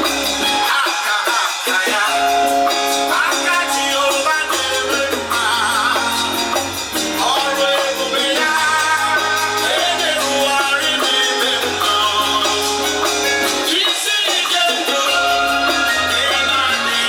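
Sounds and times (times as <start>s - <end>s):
upbeat song with singing: 0.0s - 17.0s.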